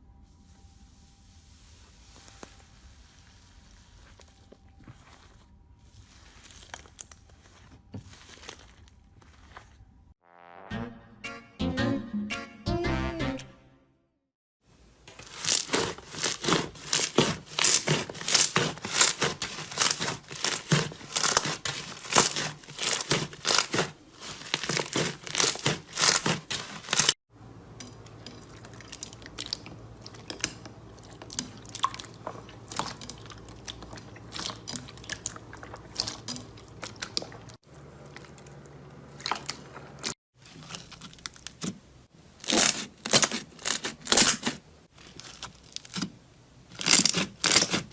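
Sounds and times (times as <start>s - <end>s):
slime crackling and crunching: 1.5s - 9.8s, 15.1s - 27.2s, 28.2s - 41.8s, 42.4s - 47.9s.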